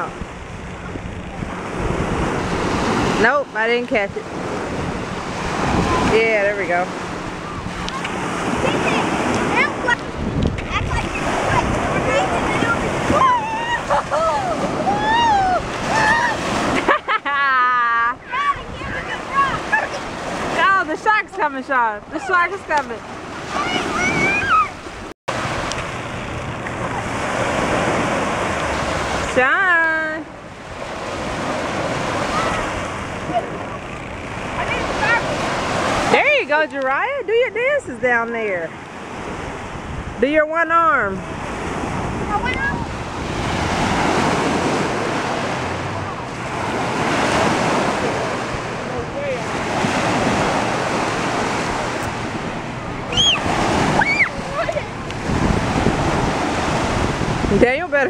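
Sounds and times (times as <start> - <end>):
ocean surf washing ashore: 0.0 - 58.0.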